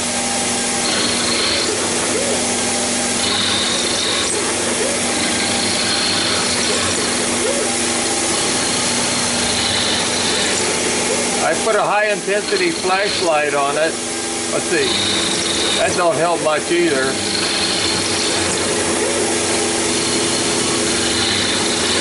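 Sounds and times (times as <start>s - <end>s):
milling machine cutting metal: 0.0s - 22.0s.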